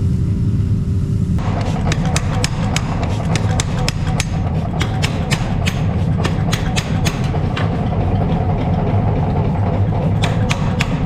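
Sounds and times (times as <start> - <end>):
steady low rumble: 0.0 - 11.0
hammer tapping on steel: 1.4 - 11.0.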